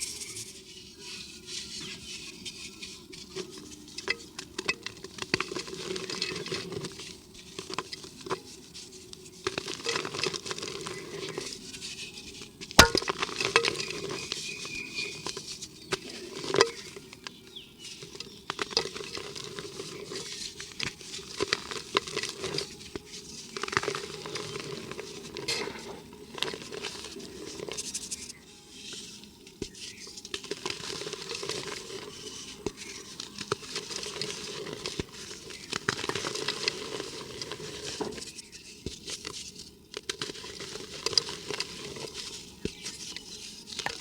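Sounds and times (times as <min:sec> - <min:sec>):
dirt crumbling against clay pot: 0:00.0 - 0:44.0.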